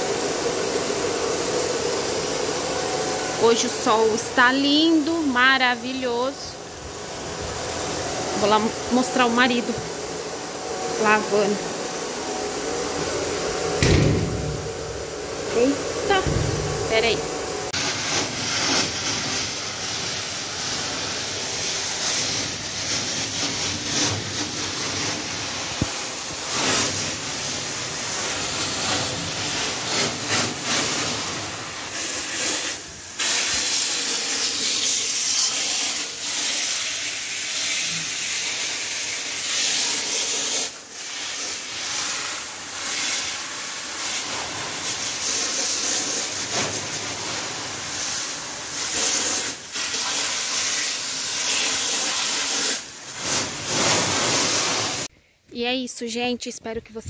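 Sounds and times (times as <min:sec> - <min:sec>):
pressure washer spraying: 0:00.0 - 0:55.1.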